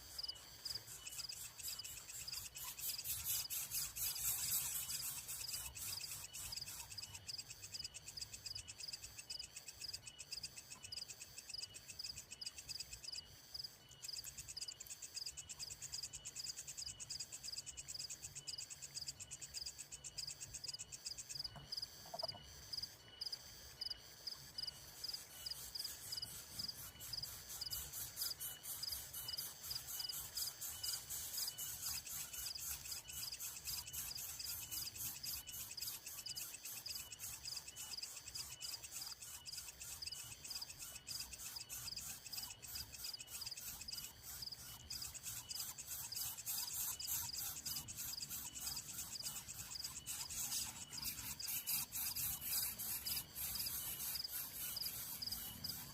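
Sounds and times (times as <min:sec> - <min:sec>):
chorus of chirping animals: 0:00.0 - 0:13.2, 0:19.4 - 0:55.9.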